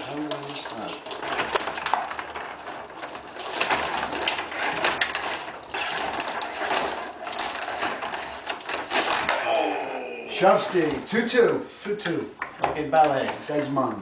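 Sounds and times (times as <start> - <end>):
metal rods sliding and spinning: 0.0 - 11.3.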